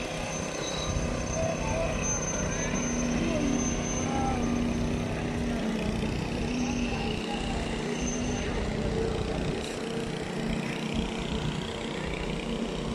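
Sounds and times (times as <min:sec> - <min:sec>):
diesel engine drone: 0:00.0 - 0:12.9.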